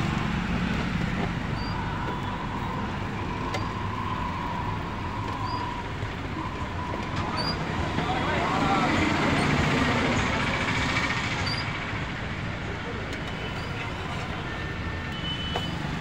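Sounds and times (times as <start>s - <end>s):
car engines: 0.0s - 16.0s
motorbike engines: 0.0s - 16.0s.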